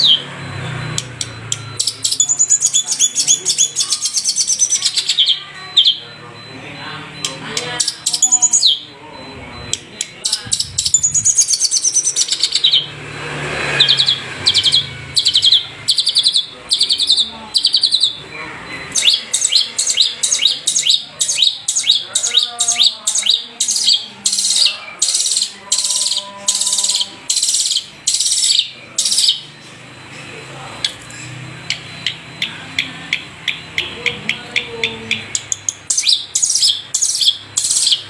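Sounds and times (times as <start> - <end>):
bird singing trilled phrases: 0.0 - 6.5, 7.2 - 12.9, 13.7 - 29.6, 30.8 - 38.0.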